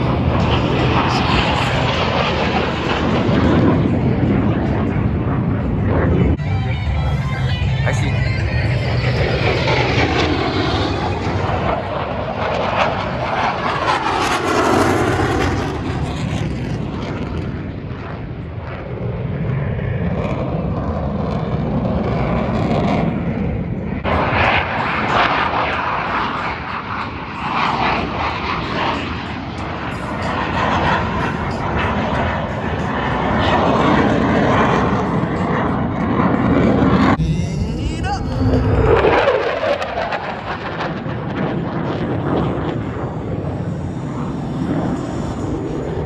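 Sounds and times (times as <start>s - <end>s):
jet aircraft flying past: 0.0s - 46.0s.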